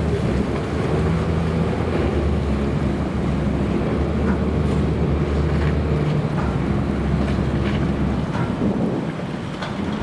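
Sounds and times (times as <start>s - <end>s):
boat engine humming: 0.0s - 10.0s
water noise: 0.0s - 10.0s
wind on microphone: 1.8s - 10.0s.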